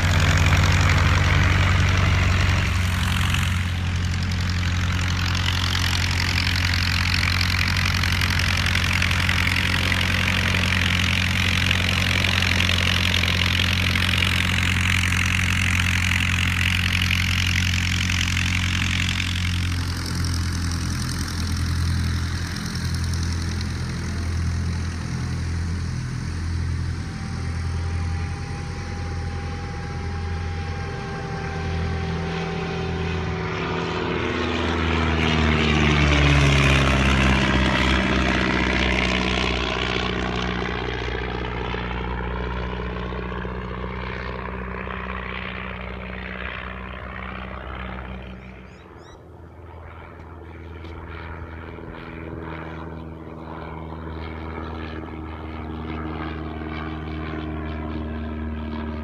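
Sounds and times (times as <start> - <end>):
light aircraft flying past: 0.0 - 59.0.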